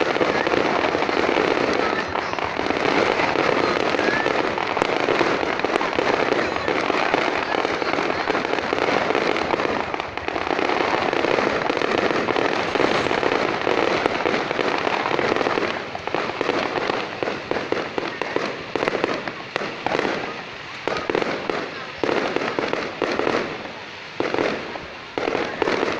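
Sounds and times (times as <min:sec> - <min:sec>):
fireworks crackling and popping: 0:00.0 - 0:25.9.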